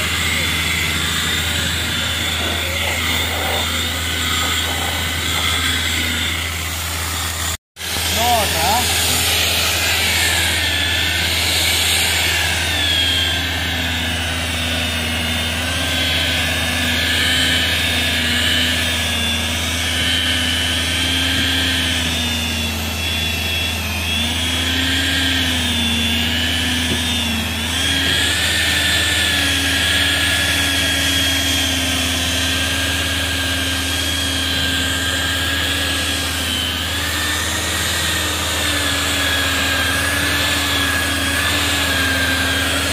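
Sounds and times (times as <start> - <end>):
rotary polisher motor whine: 0.0 - 42.9.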